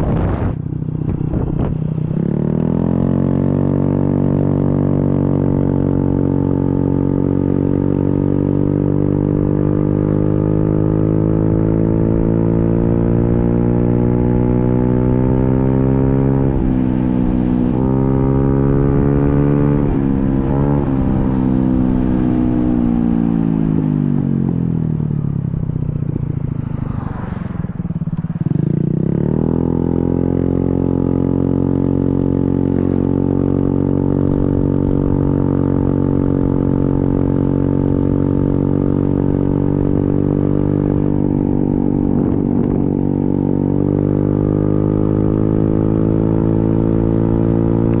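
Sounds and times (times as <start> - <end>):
motorcycle engine: 0.0 - 48.0.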